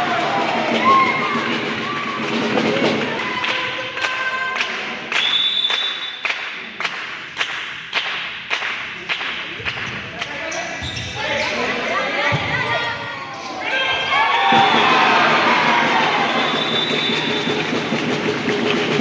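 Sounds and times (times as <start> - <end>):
sharp claps in a large hall: 0.0 - 10.8, 14.2 - 19.0.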